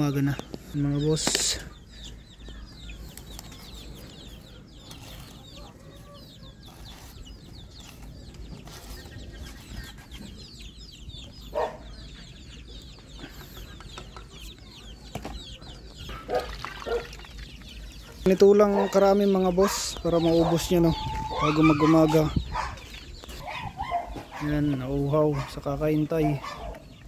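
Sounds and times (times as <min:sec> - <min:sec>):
chicks peeping: 0:00.0 - 0:27.0
chicken clucking: 0:01.7 - 0:27.0.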